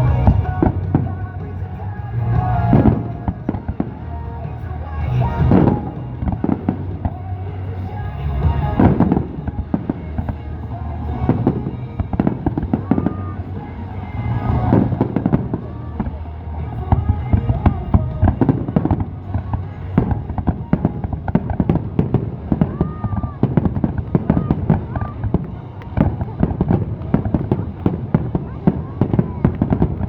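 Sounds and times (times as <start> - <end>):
fireworks bangs: 0.0 - 30.0
music on loudspeakers: 0.0 - 30.0.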